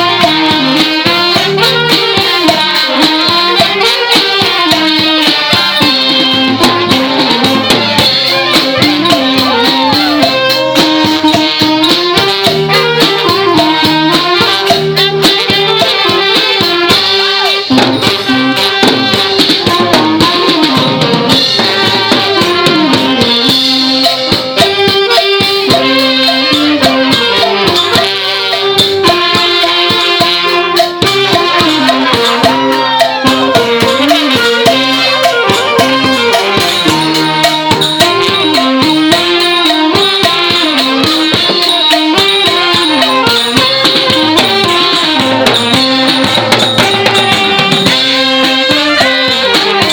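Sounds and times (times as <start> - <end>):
brass band playing: 0.0 - 49.9
rattling percussion: 0.0 - 49.9
steady drums: 0.0 - 49.9
wind melody with sliding notes: 0.0 - 49.9.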